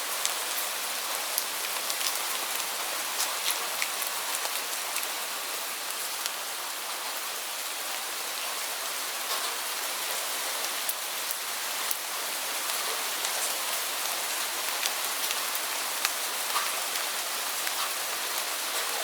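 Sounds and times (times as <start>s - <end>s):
heavy rain falling: 0.0s - 19.0s
raindrops splattering: 0.1s - 7.1s, 9.2s - 19.0s.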